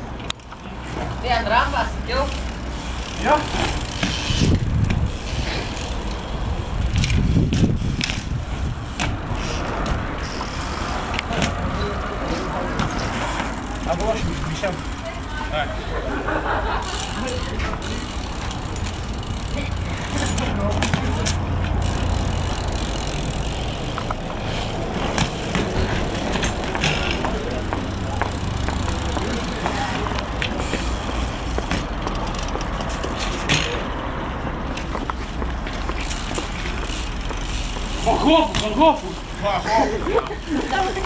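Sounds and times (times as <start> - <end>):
bike tyres rolling: 0.0 - 41.0.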